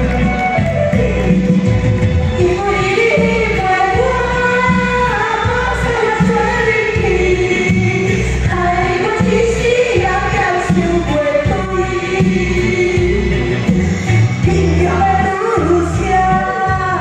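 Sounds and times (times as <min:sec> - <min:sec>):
amplified backing track with beat: 0:00.0 - 0:17.0
woman singing: 0:02.4 - 0:13.8, 0:14.4 - 0:17.0.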